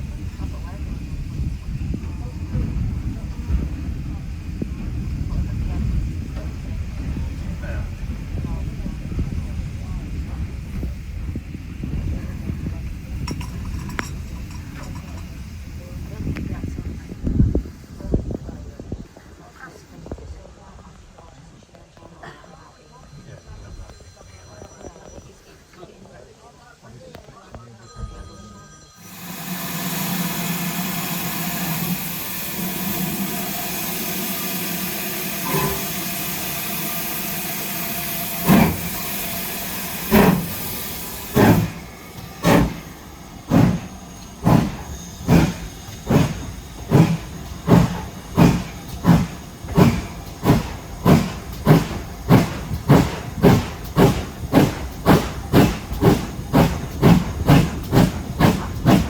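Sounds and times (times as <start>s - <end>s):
steam hissing: 0.0s - 19.9s, 29.0s - 59.0s
steam locomotive exhaust chuffs: 0.0s - 19.9s, 29.0s - 59.0s.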